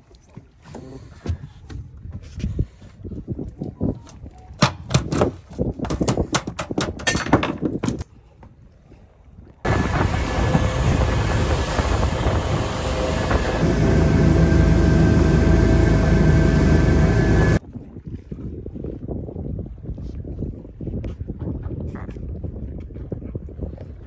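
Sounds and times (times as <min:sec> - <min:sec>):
boat motor and wind rush: 0:00.0 - 0:24.0.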